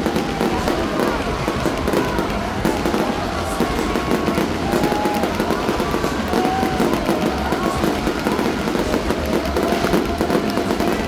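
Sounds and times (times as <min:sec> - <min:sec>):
fireworks crackling bursts: 0:00.0 - 0:11.0
loud music: 0:00.0 - 0:11.0.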